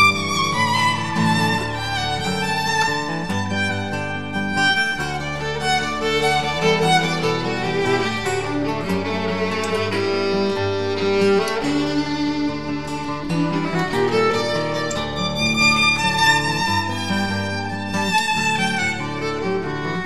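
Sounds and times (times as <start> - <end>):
violin melody: 0.0 - 20.0.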